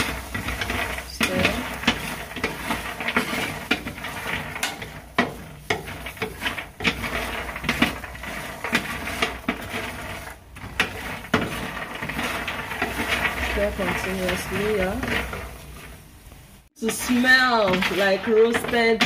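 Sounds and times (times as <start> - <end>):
peanuts rattling on a baking tray: 0.0 - 15.9, 16.8 - 19.0
spatula scraping tray: 0.0 - 19.0.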